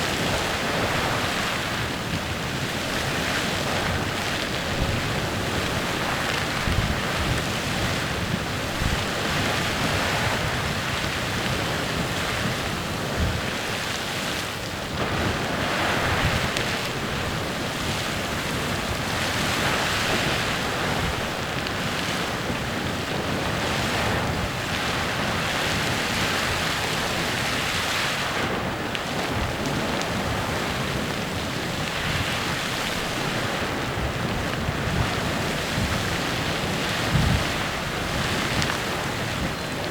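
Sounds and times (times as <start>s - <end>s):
geyser jetting water and steam: 0.0s - 39.9s.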